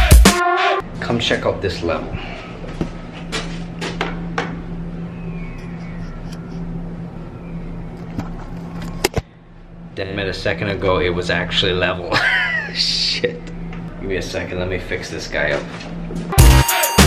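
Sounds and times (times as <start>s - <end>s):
steady low hum: 0.8s - 16.6s.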